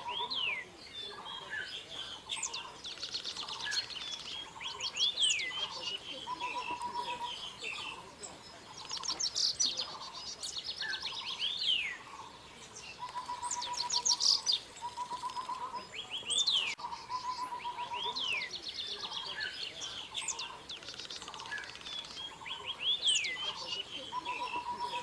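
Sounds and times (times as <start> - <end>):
birds down-sweeping calls: 0.0 - 25.0
birds high trills: 0.0 - 25.0
low pulsed bird trill: 0.0 - 25.0.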